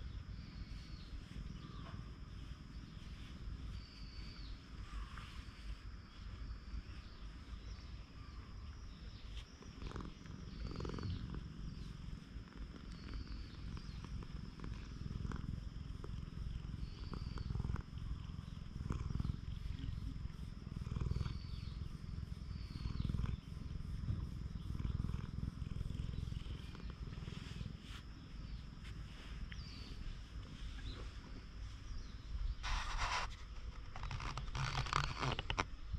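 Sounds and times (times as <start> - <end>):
cat purring: 0.0 - 33.3.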